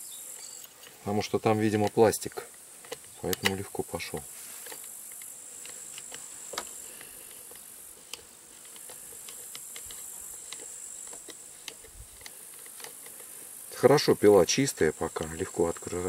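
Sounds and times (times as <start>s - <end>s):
insects chirring: 0.0s - 16.0s
small parts clicking and tapping: 0.3s - 16.0s.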